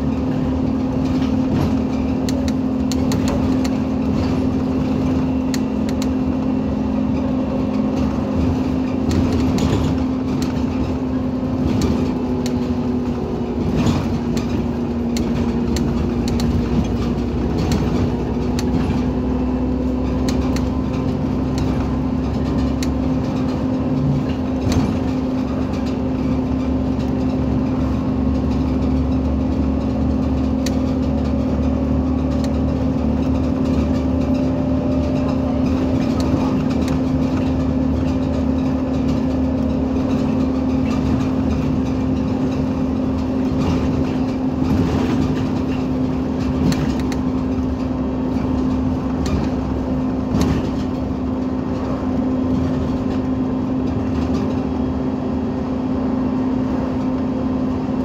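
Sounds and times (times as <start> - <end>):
bus engine idling: 0.0 - 58.0.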